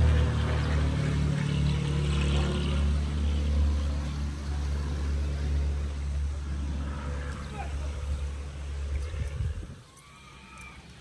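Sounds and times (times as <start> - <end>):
car engine droning: 0.0 - 9.7.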